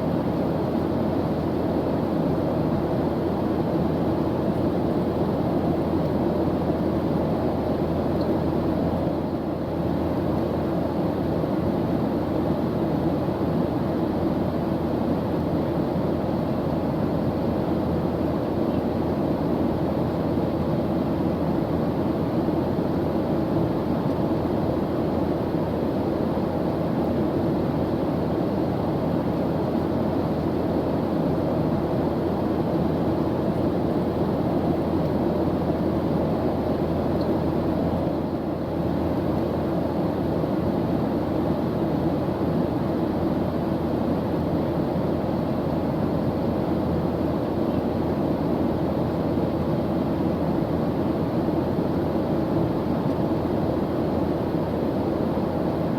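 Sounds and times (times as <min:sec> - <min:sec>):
airliner cabin drone: 0:00.0 - 0:55.9.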